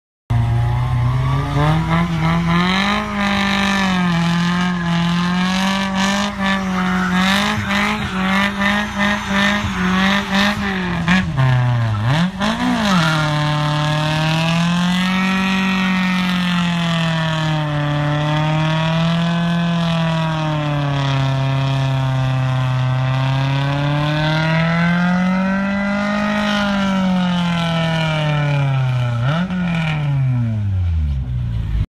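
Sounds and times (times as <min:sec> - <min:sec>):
car engine revving high: 0:00.3 - 0:30.9.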